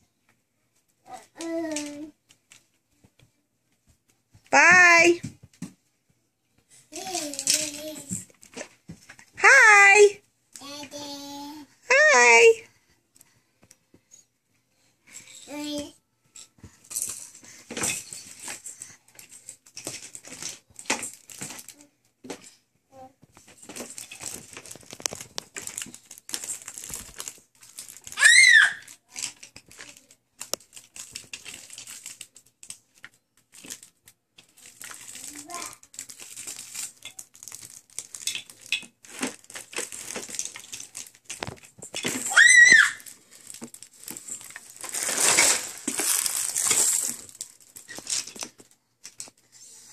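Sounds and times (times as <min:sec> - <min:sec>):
toys rustling and clattering: 0:00.3 - 0:05.9, 0:06.6 - 0:11.3, 0:13.1 - 0:49.9.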